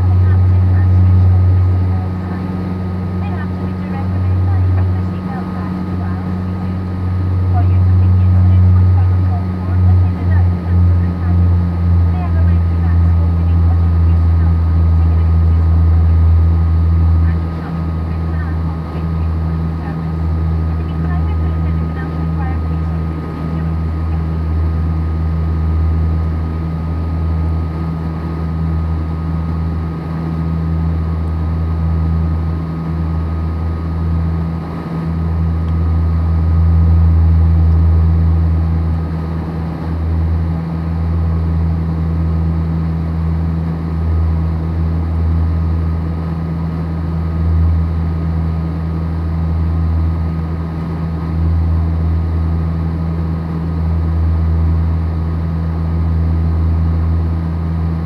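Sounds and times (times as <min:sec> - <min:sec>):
deep hum of turboprop engines: 0:00.0 - 0:58.0
thin steady whine: 0:00.0 - 0:58.0.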